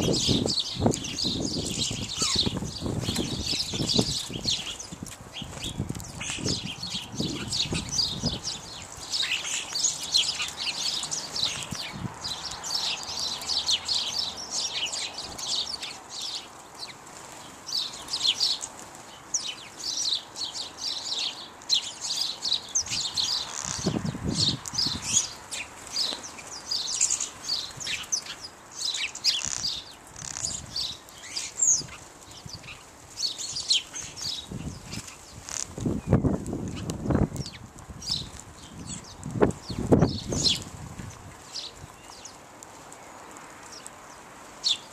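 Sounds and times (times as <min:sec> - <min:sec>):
sparrows chirping: 0:00.0 - 0:44.9
sparrow wingbeats fluttering: 0:00.1 - 0:20.0, 0:22.7 - 0:43.0.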